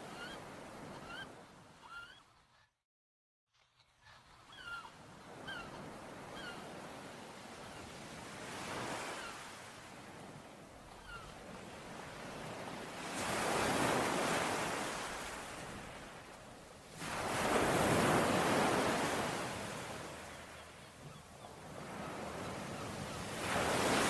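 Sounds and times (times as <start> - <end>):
ocean waves breaking on shore: 4.3 - 24.0.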